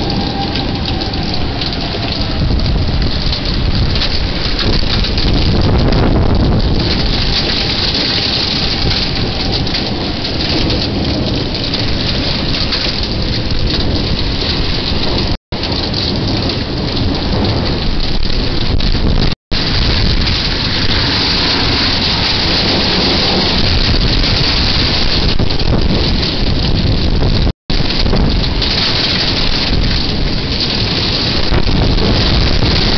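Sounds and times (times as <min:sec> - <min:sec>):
heavy rain pouring on cars: 0:00.0 - 0:32.9.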